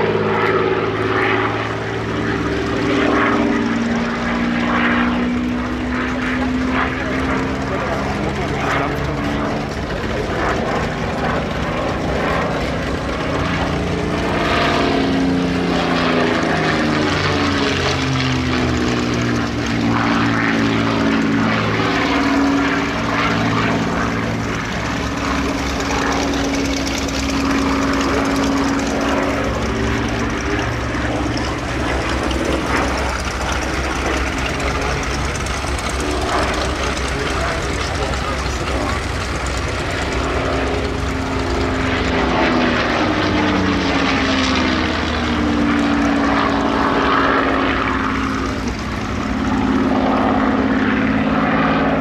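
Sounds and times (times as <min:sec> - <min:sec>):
propeller plane engine in flight: 0:00.0 - 0:52.0.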